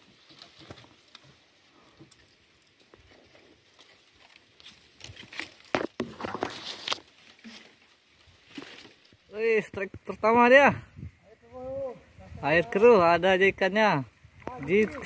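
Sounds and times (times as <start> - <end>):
palm fronds rustling and scraping: 0.0 - 10.6, 11.2 - 15.0.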